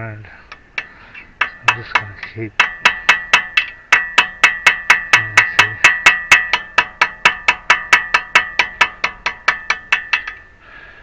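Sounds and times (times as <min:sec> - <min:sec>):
hammer tapping metal chisel: 0:00.5 - 0:10.5.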